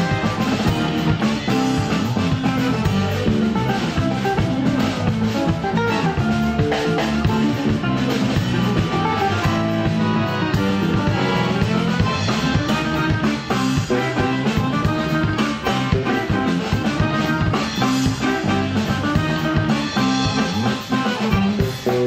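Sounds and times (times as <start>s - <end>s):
accordion: 0.0s - 22.0s
bass guitar: 0.0s - 22.0s
drum kit: 0.0s - 22.0s
electric guitar: 0.0s - 22.0s.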